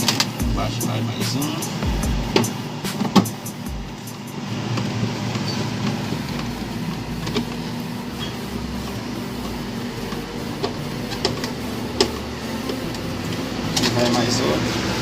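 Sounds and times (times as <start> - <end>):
mechanical hum with low rumble: 0.0 - 15.0.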